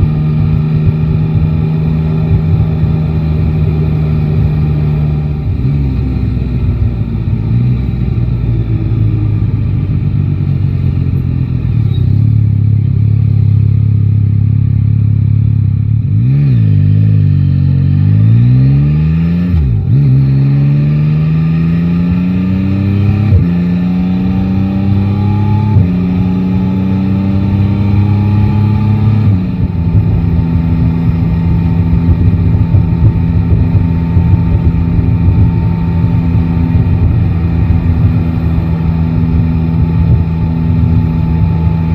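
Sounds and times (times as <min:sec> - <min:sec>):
motorcycle engine cruising and accelerating: 0:00.0 - 0:41.9.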